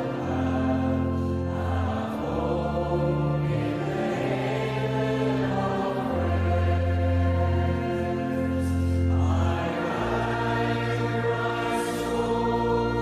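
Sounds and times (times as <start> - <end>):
choral gospel music: 0.0 - 13.0.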